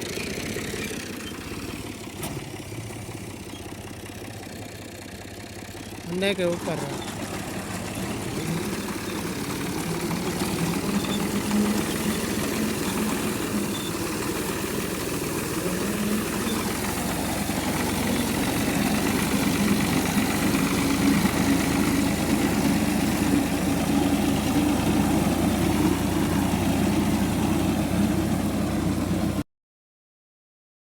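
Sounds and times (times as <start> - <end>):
tractor diesel engine running: 0.0 - 29.4.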